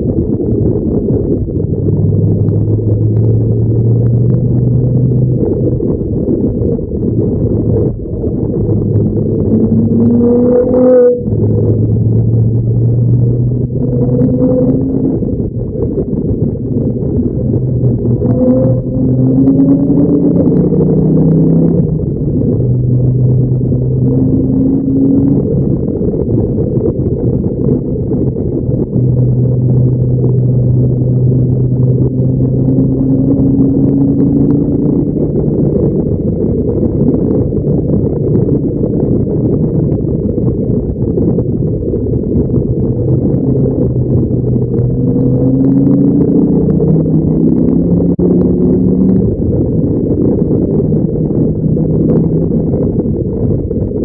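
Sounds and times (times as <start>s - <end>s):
car engine running hard: 0.0s - 54.0s.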